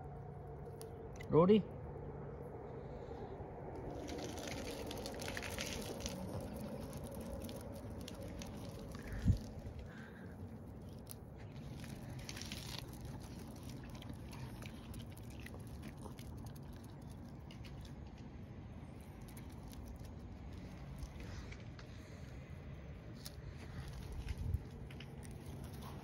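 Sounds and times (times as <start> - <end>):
low steady rumble: 0.0 - 26.0
dogs chewing mouth clicks: 3.7 - 21.9, 23.2 - 26.0.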